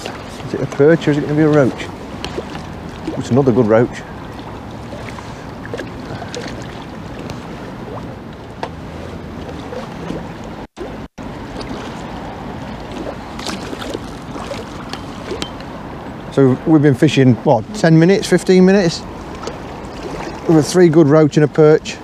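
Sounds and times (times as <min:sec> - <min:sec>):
choppy river water: 0:00.0 - 0:22.0.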